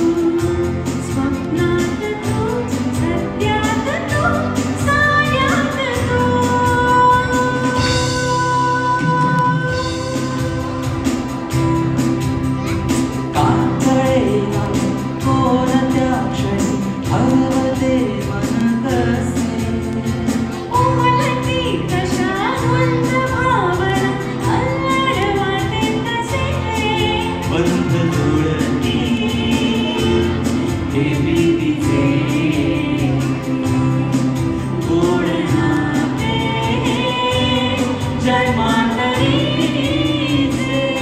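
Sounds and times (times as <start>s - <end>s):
man and woman singing: 0.0s - 11.1s, 13.3s - 41.0s
guitars and keyboard: 0.0s - 41.0s.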